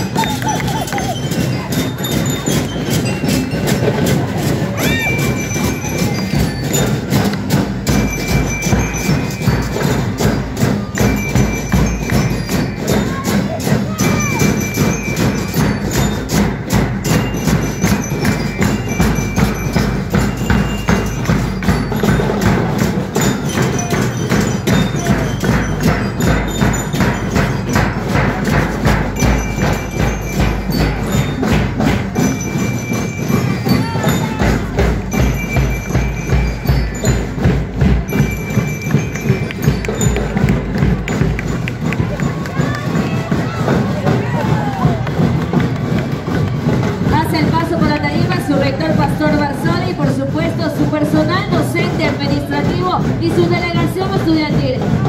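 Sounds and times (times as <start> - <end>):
bass drums beating: 0.0 - 55.0
bell-like melody: 0.0 - 55.0.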